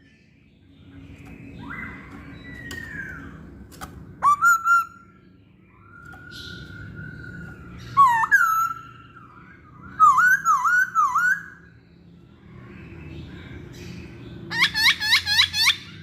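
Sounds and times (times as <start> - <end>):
bird whistling song: 0.0 - 11.8, 13.8 - 16.0.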